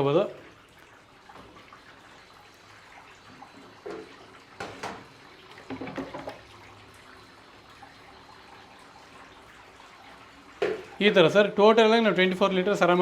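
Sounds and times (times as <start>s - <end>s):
water pouring into a tank: 0.0s - 13.0s.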